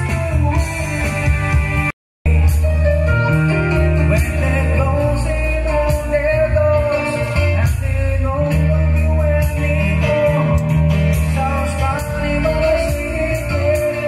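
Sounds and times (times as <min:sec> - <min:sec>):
electric guitar: 0:00.0 - 0:14.0
heavy bass line: 0:00.0 - 0:14.0
keyboard: 0:00.0 - 0:14.0
person singing: 0:02.3 - 0:14.0.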